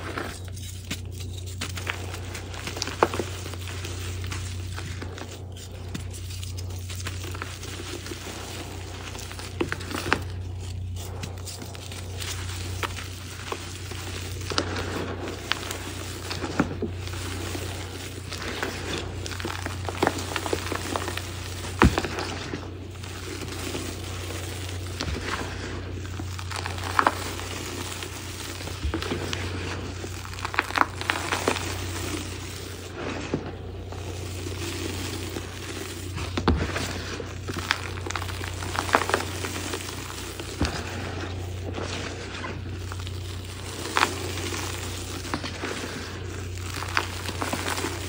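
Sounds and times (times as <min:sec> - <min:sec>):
chalk crunching in hands: 0:00.0 - 0:48.0.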